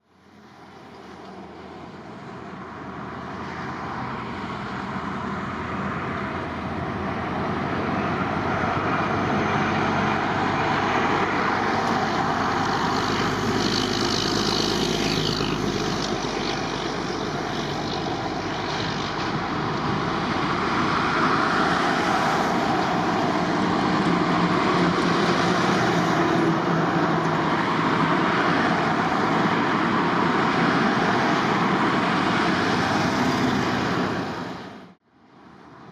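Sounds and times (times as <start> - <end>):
jet engines rushing with whine: 0.1 - 35.9.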